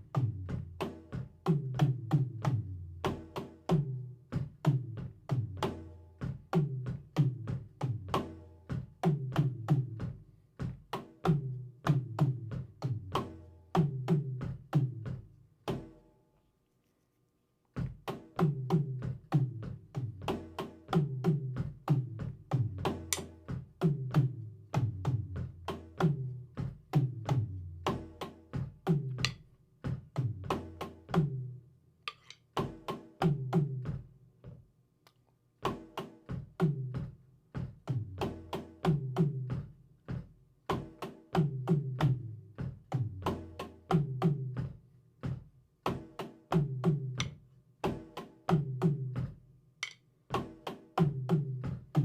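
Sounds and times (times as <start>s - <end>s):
drum kit playing a beat: 0.0s - 16.0s, 17.7s - 34.7s, 35.6s - 52.0s.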